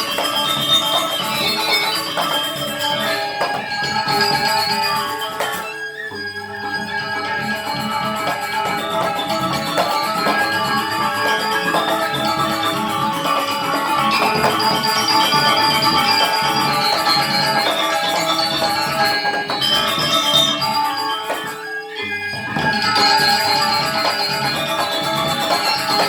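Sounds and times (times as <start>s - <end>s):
small cymbals clattering: 0.0s - 6.0s, 6.7s - 26.0s
metallophone and gong-chime notes: 0.0s - 26.0s.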